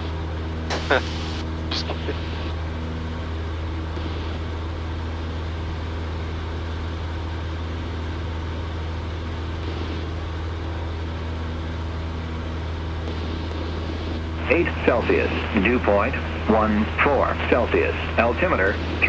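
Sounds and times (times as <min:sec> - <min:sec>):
airplane engine and propeller droning: 0:00.0 - 0:19.0.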